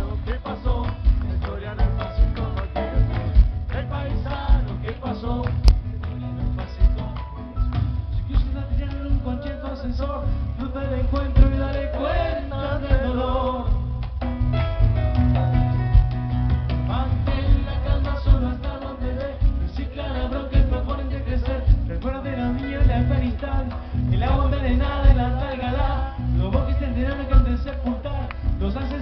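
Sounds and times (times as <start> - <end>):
drum hits: 0.0 - 28.7
live band music: 0.0 - 29.0.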